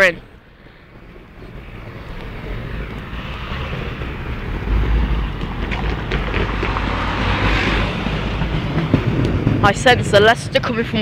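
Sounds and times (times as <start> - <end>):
road traffic hiss: 0.0 - 11.0
wind buffeting microphone: 0.1 - 11.0.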